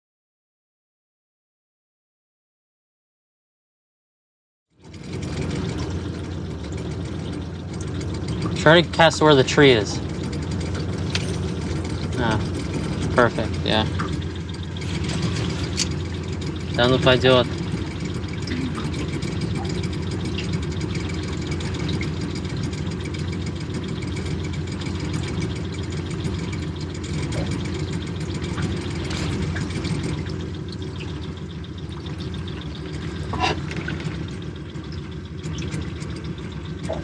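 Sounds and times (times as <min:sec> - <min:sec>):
boat motor running: 0:04.7 - 0:37.0.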